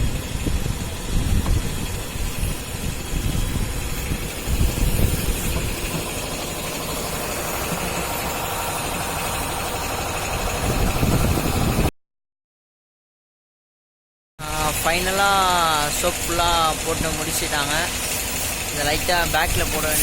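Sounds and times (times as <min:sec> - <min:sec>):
machine motor rumbling: 0:00.0 - 0:11.9, 0:14.5 - 0:20.0.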